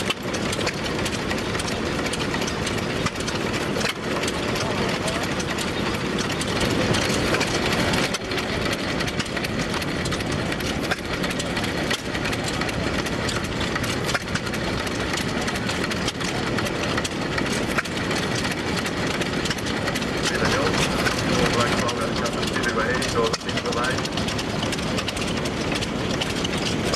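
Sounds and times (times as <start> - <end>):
dense background noise: 0.0 - 26.9
engines running: 0.0 - 26.9.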